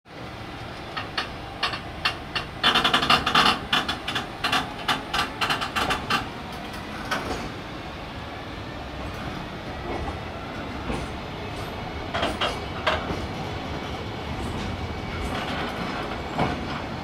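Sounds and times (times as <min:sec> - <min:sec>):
metallic clanks of train couplers: 0:00.6 - 0:07.6, 0:09.1 - 0:17.0.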